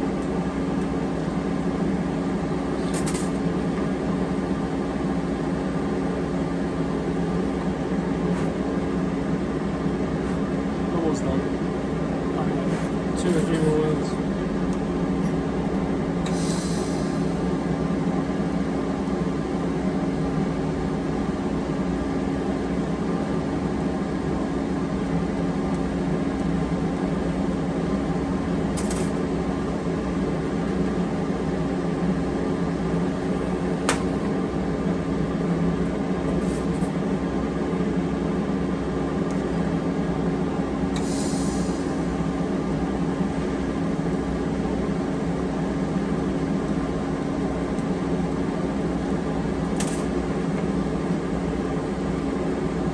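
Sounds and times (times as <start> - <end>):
welder electrical hum and buzz: 0.0 - 52.9.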